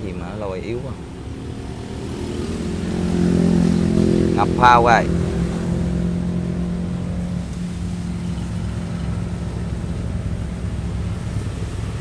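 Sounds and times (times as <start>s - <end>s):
engine rumbling: 0.0s - 12.0s
hum: 0.0s - 12.0s.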